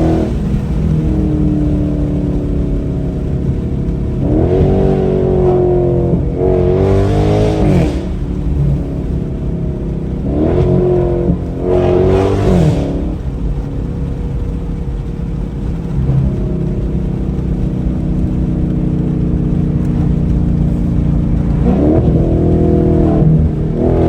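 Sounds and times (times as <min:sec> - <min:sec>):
vee eight engine accelerating: 0:00.0 - 0:24.0.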